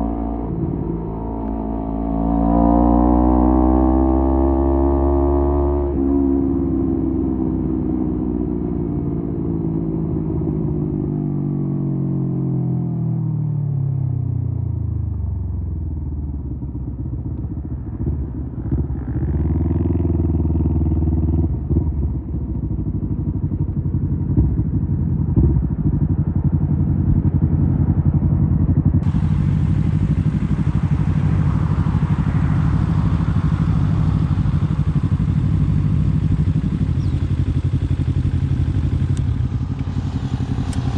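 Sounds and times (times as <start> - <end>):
motorcycle engine: 0.0 - 8.3, 16.2 - 40.9.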